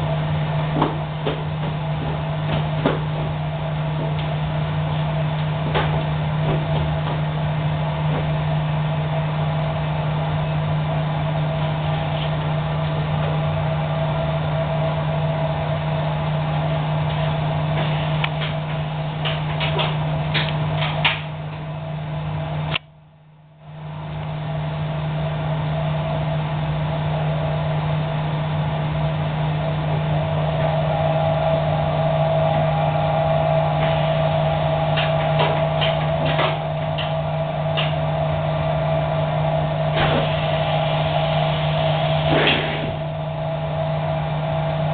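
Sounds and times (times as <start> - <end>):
welding machine hum and whine: 0.0 - 44.9.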